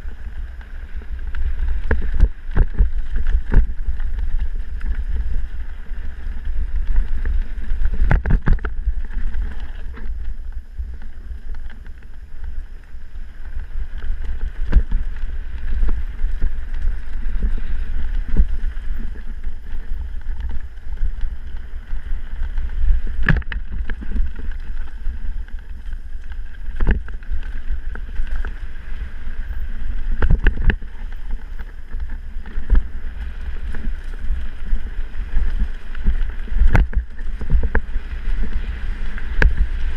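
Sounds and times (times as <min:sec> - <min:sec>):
tyres rolling on dirt: 0:00.0 - 0:39.9
wind over microphone: 0:00.0 - 0:39.9.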